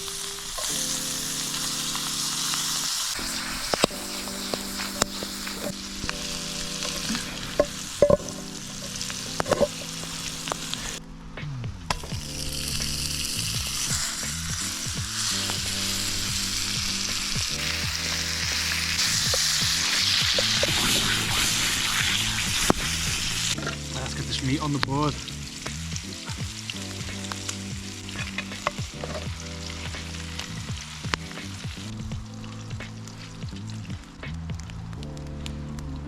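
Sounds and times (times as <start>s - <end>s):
food sizzling over fire: 0.0s - 11.0s, 11.9s - 36.0s
fire pops and crackles: 0.0s - 36.0s.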